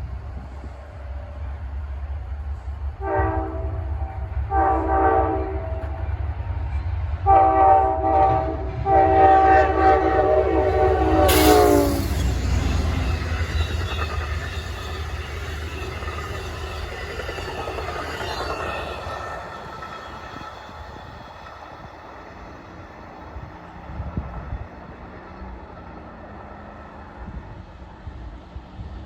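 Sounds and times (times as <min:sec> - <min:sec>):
passenger train rolling on rails: 0:00.0 - 0:29.0.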